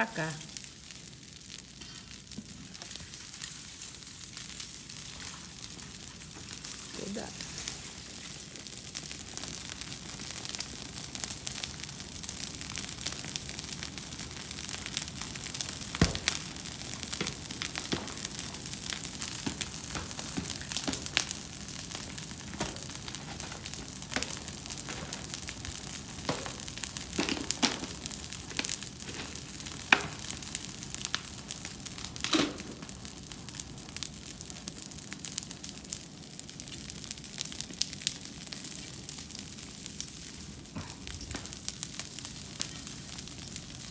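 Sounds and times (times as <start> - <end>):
fire crackling and hissing: 0.0 - 43.9
loud fire snaps: 0.2 - 43.9.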